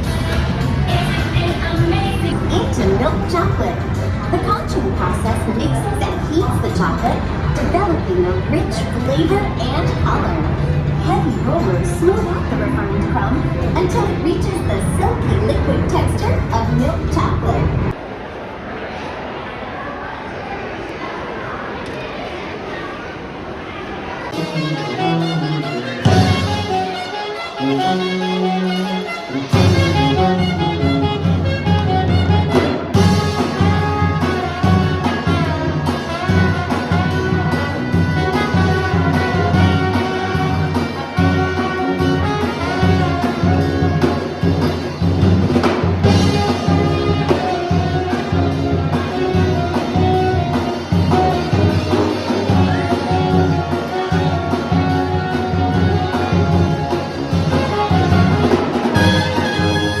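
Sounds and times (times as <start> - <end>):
upbeat orchestral music: 0.0 - 16.8, 24.3 - 60.0.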